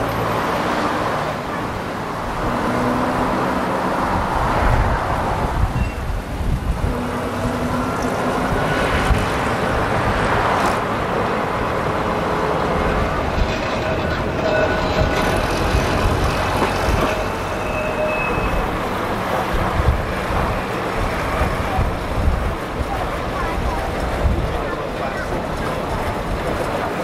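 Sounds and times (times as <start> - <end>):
tram rail rumble: 0.0 - 27.0.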